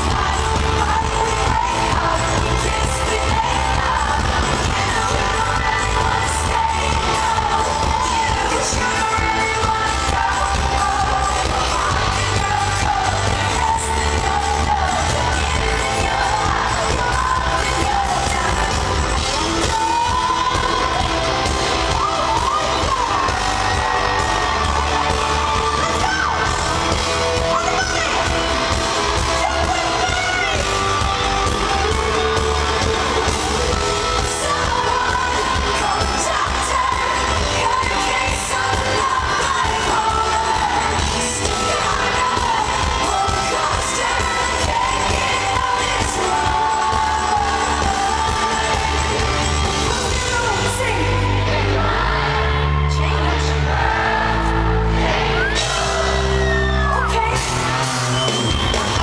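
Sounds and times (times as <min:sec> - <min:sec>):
live pop concert with woman singing: 0:00.0 - 0:59.0.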